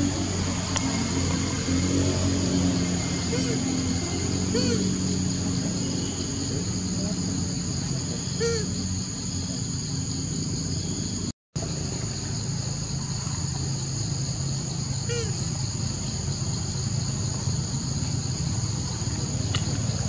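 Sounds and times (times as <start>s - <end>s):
insects calling: 0.0s - 20.0s.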